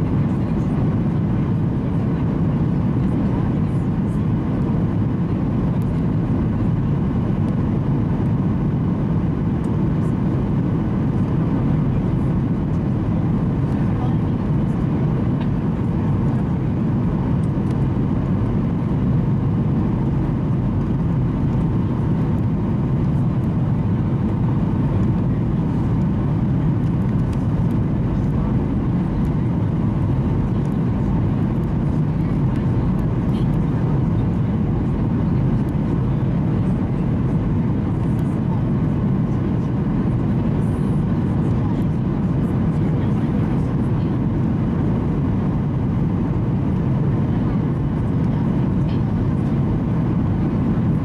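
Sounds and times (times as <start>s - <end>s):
aircraft engine and airflow rumble: 0.0s - 51.0s.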